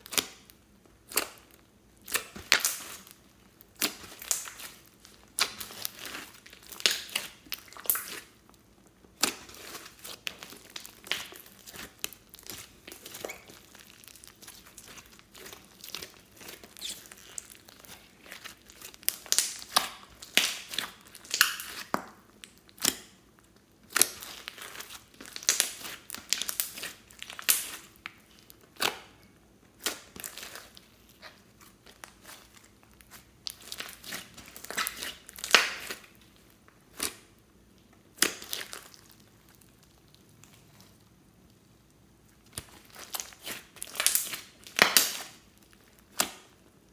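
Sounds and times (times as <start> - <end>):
slime crackling and popping: 0.0 - 46.9.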